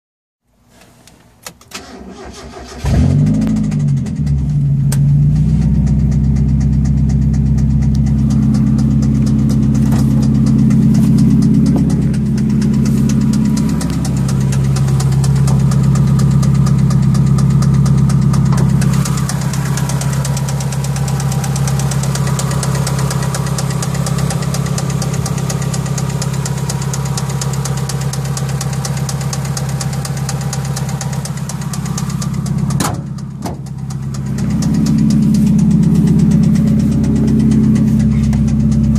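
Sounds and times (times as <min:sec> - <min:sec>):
car engine idling: 0:01.8 - 0:38.9
rapid engine knock: 0:05.3 - 0:38.9.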